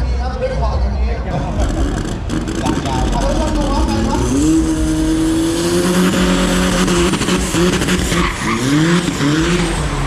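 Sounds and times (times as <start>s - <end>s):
car engine revving: 1.2s - 10.0s.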